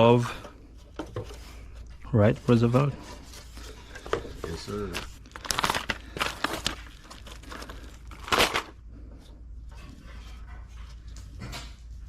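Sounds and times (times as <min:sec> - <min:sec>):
rustling and scraping handling: 0:00.0 - 0:12.0.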